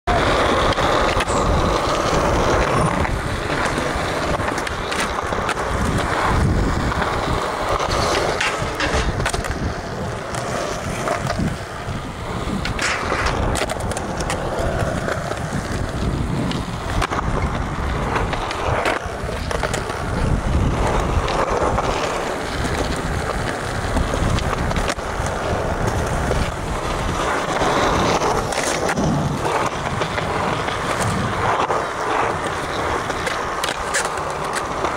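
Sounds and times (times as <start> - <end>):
skateboard clacks: 0.1 - 34.9
skateboard wheels rolling on concrete: 0.1 - 34.9.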